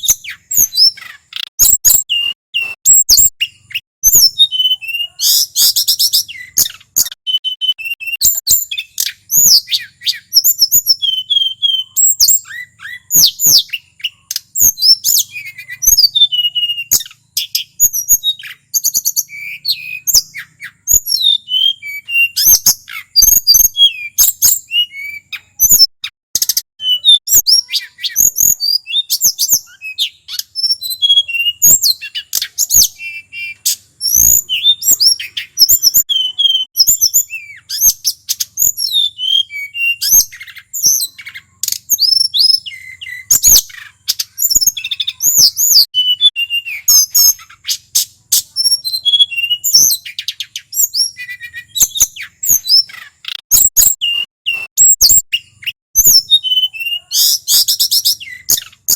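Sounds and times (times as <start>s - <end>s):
bird singing whistled trills: 0.0s - 58.9s.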